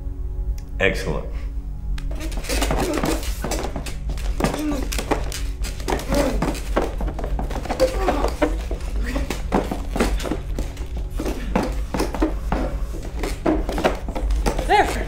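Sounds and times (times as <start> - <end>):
background music: 0.0 - 15.0
steady low hum: 0.0 - 15.0.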